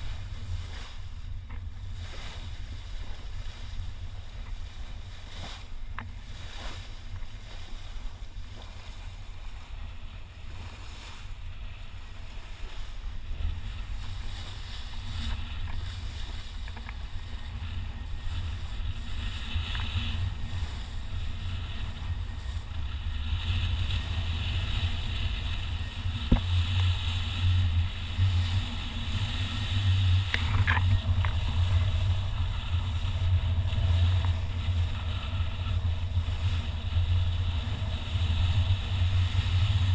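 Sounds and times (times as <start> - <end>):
low rumble: 0.0 - 39.9
water noise: 0.0 - 39.9
wind: 0.0 - 39.9.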